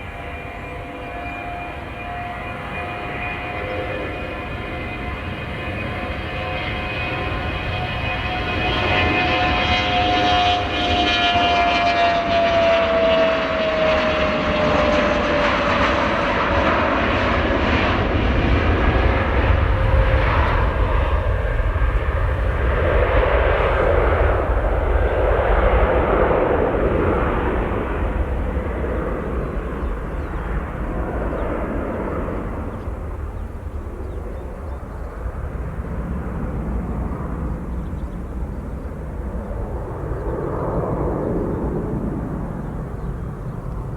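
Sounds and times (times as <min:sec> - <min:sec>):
jet airliner passing by: 0:00.0 - 0:43.9.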